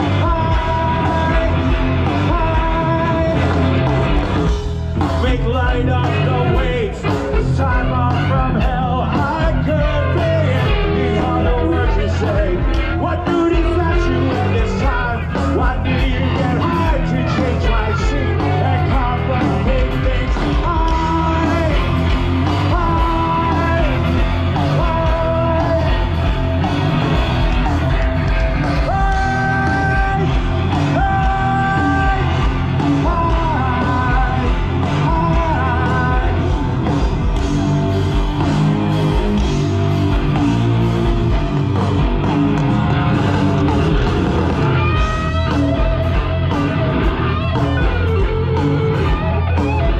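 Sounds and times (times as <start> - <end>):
live rock band playing: 0.0 - 49.9
singer holding long notes: 0.0 - 49.9.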